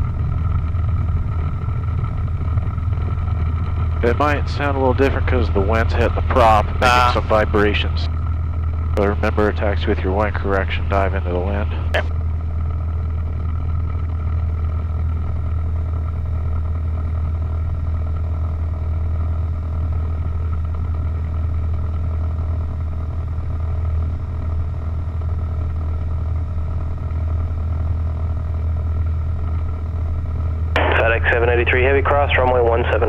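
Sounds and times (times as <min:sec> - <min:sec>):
light aircraft engine droning: 0:00.0 - 0:33.0.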